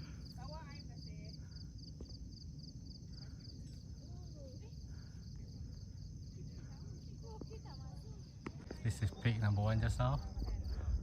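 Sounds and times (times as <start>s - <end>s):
insects chirping: 0.0s - 11.0s
low rumble of wind: 0.0s - 11.0s.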